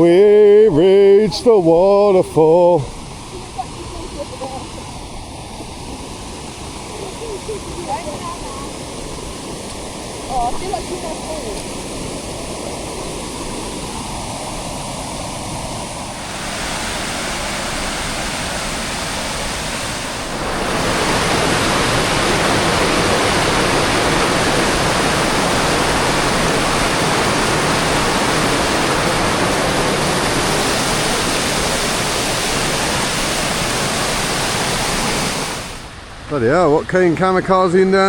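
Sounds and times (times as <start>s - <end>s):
waterfall rushing: 0.0s - 37.2s.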